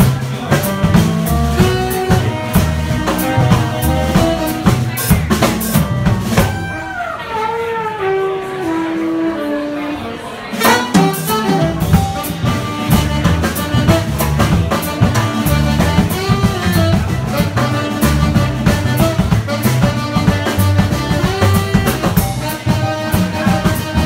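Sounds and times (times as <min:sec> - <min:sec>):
bass line: 0:00.0 - 0:09.5, 0:10.5 - 0:24.0
drum kit: 0:00.0 - 0:09.5, 0:10.5 - 0:24.0
jazz-funk band playing: 0:00.0 - 0:24.0.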